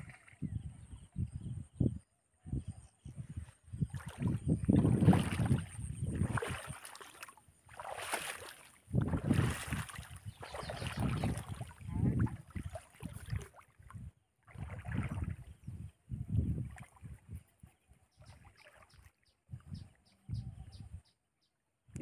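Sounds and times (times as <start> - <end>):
wading through shallow water: 0.0 - 1.0, 3.3 - 20.5.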